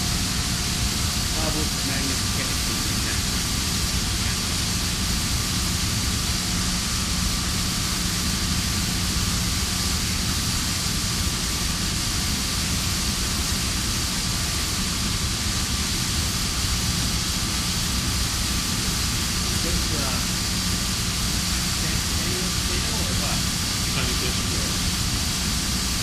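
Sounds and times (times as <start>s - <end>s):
loud constant hiss: 0.0s - 26.0s
low steady hum: 0.0s - 26.0s.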